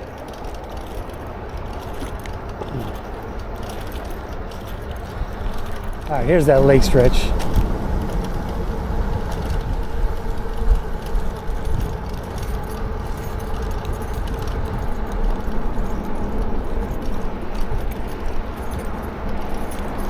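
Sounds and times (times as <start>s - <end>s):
bike jingling rattle: 0.0s - 20.0s
wind rumble on microphone: 0.0s - 20.0s.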